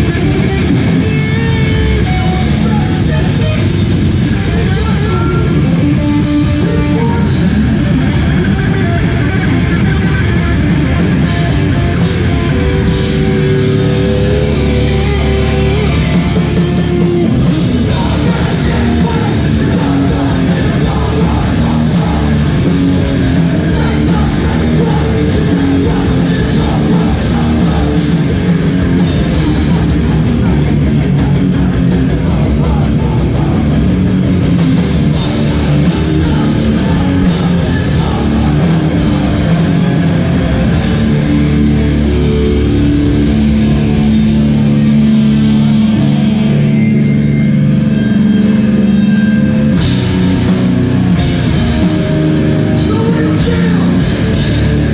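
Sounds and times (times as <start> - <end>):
hardcore band playing live: 0.0 - 54.9.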